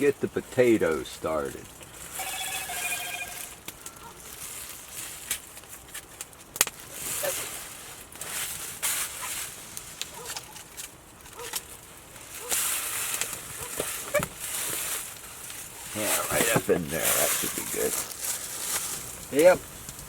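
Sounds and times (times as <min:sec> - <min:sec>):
campfire crackling and popping: 0:00.0 - 0:20.0
rustling and handling noises: 0:01.7 - 0:20.0.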